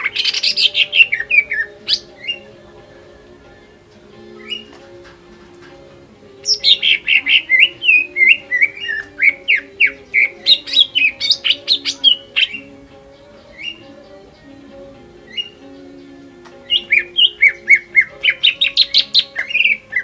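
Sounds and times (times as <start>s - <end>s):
bird singing whistled notes: 0.0s - 5.0s, 6.4s - 20.0s.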